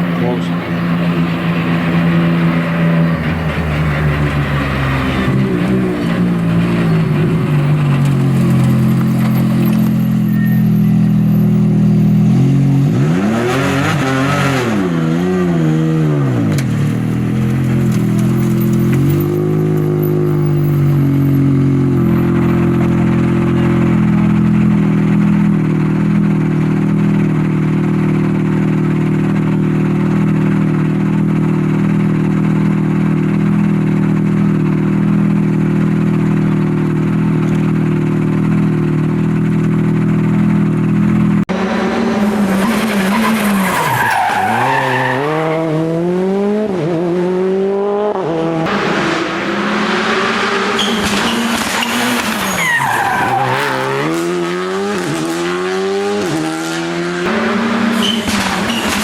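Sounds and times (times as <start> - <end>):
rally car engine idling and revving: 0.0 - 59.0.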